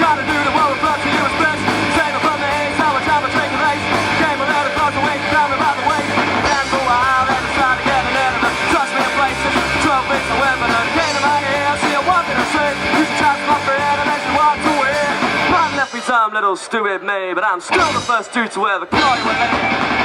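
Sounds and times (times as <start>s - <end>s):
live punk rock band: 0.0s - 16.4s, 17.6s - 20.0s
person singing: 0.0s - 19.9s.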